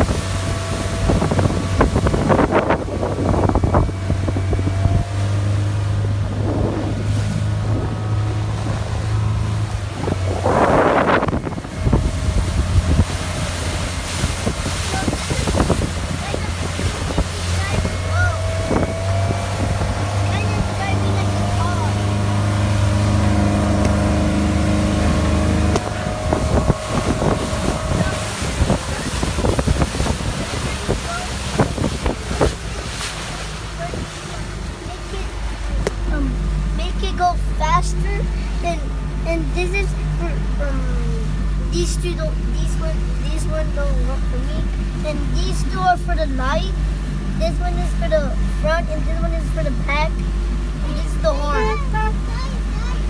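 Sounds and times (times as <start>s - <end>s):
motorboat engine droning: 0.0s - 53.0s
water noise: 0.0s - 53.0s
wind: 0.0s - 53.0s.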